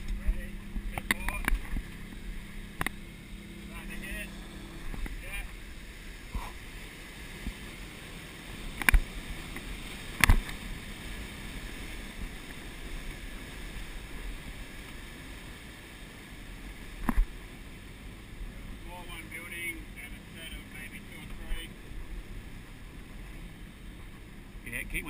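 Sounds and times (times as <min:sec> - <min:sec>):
water rushing: 0:00.0 - 0:25.0
wind: 0:00.0 - 0:25.0.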